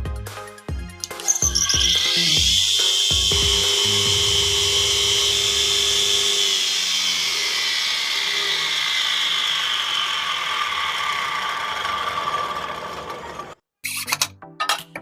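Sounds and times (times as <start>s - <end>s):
power tool whining: 1.0s - 13.6s.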